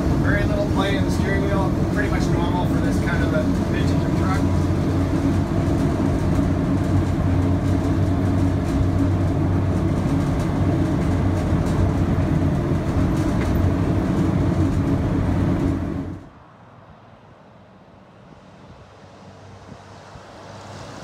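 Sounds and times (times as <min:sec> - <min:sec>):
road noise: 0:00.0 - 0:21.0
truck engine drone: 0:00.0 - 0:21.0.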